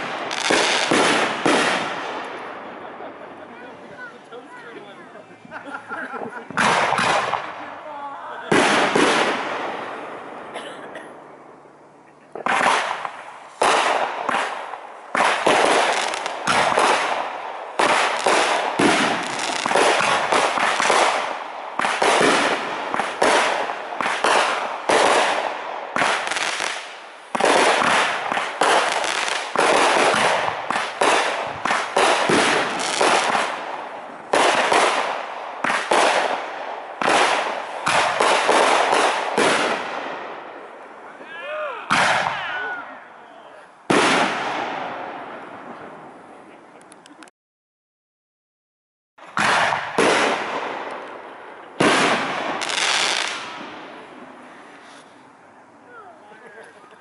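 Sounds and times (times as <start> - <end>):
fireworks bangs and crackles: 0.0 - 10.6, 12.2 - 43.1, 43.8 - 47.3, 49.2 - 57.0.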